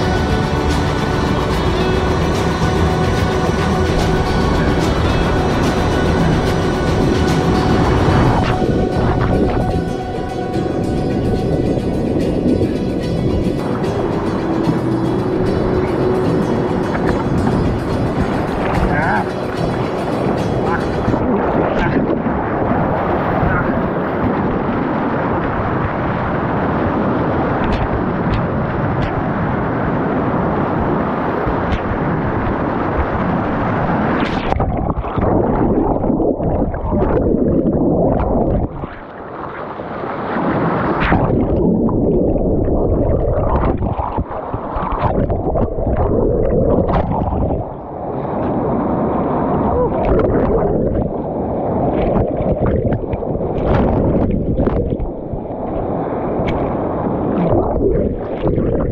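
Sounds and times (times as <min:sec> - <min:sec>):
rapids rushing and splashing: 0:00.0 - 0:58.9.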